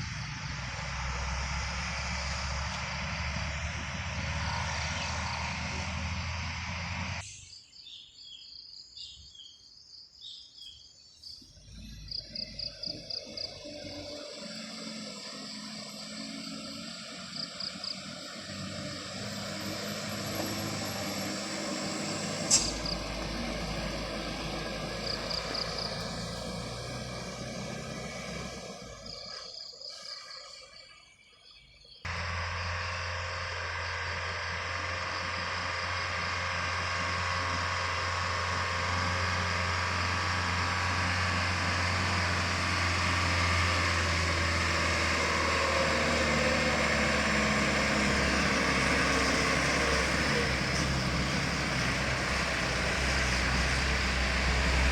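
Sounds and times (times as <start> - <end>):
heavy vehicle passing: 0.0 - 7.2, 13.6 - 29.3, 32.1 - 54.9
low engine hum: 0.0 - 7.5, 11.2 - 30.6, 31.2 - 54.9.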